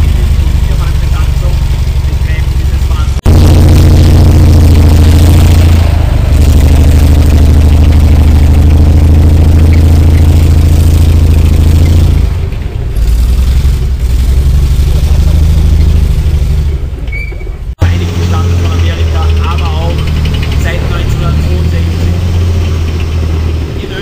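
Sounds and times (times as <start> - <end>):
tank engine running: 0.0 - 24.0.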